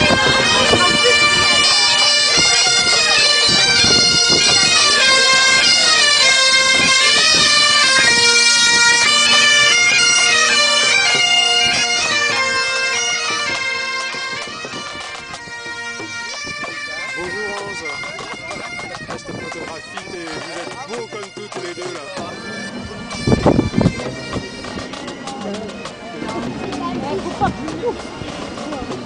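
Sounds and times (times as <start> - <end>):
bagpipes playing over a drone: 0.0 - 29.0.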